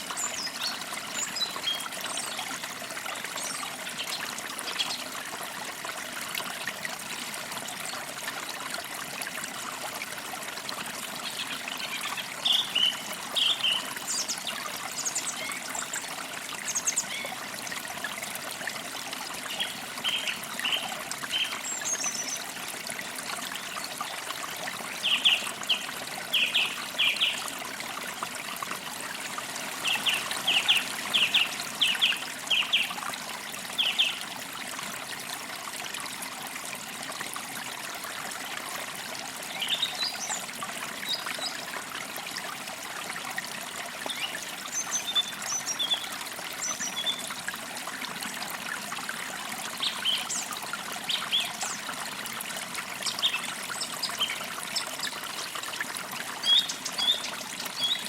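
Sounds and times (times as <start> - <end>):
creek trickling: 0.0 - 58.0.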